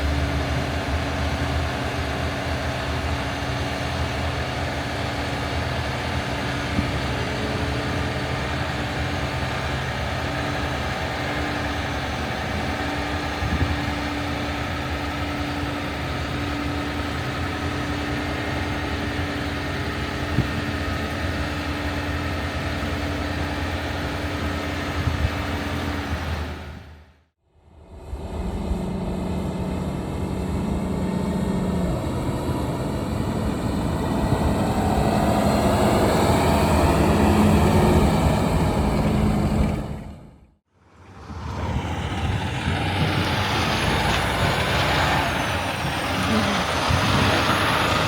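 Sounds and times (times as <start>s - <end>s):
harvester diesel engine drone: 0.0s - 48.0s.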